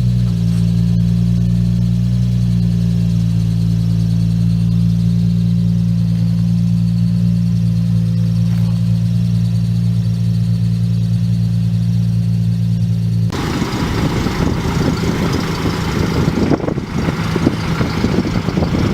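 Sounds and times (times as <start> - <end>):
car engine running: 0.0 - 18.9.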